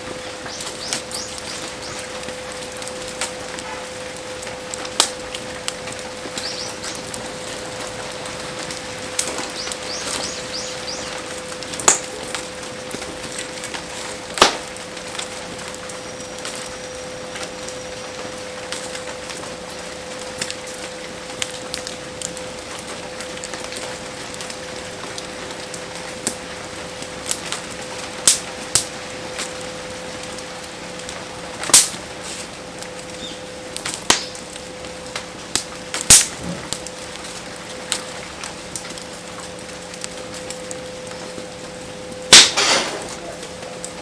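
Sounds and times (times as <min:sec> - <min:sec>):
campfire crackling and popping: 0:00.0 - 0:44.0
faint steady hum: 0:00.0 - 0:44.0
heavy rain hissing: 0:00.0 - 0:44.0.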